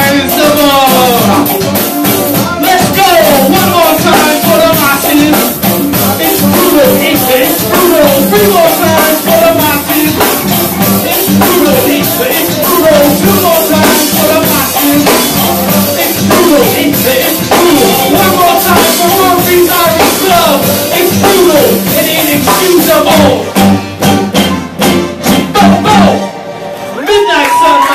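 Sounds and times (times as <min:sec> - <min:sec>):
congas: 0:00.0 - 0:27.9
drum kit: 0:00.0 - 0:27.9
electric guitar: 0:00.0 - 0:27.9.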